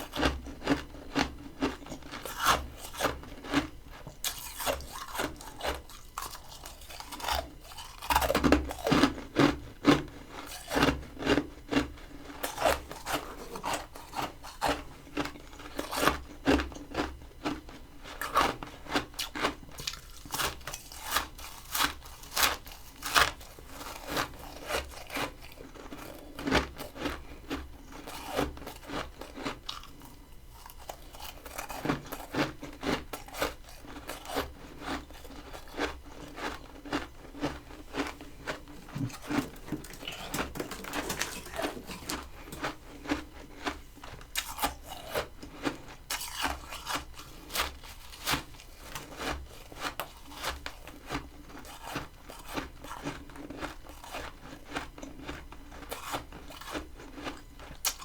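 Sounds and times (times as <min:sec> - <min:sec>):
chewing crunchy frost: 0:00.0 - 0:58.0.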